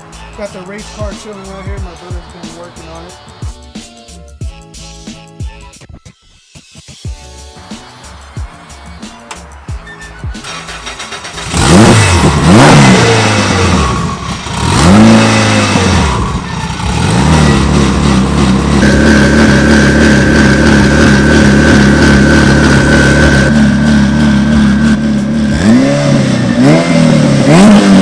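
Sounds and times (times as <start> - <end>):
race car engine revving: 0.0 - 3.4, 7.9 - 28.0.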